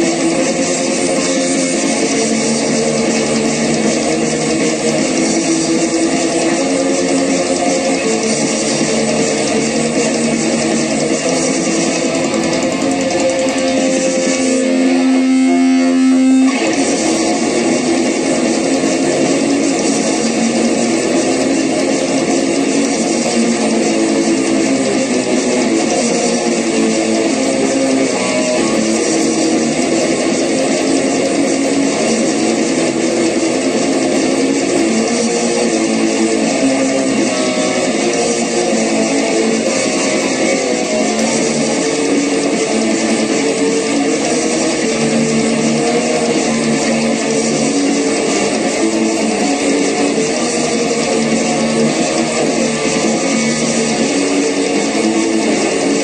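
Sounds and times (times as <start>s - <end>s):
guitar-led music: 0.0s - 56.0s.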